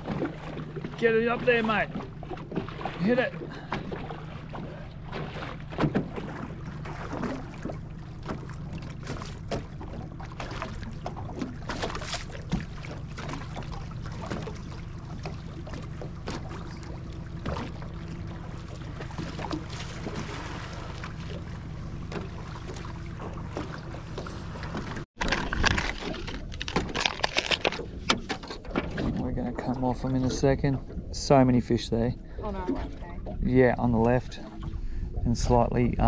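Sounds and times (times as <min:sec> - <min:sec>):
outboard motor running: 0:00.0 - 0:36.0
water splashing against hull: 0:00.0 - 0:36.0.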